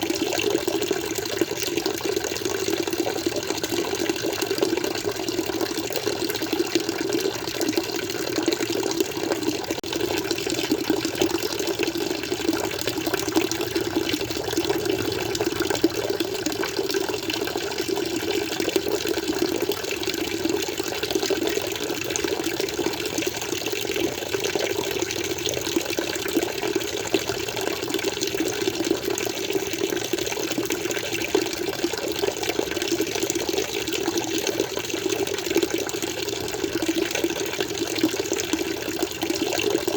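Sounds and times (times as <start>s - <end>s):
aquarium water flowing and splashing: 0.0s - 39.9s.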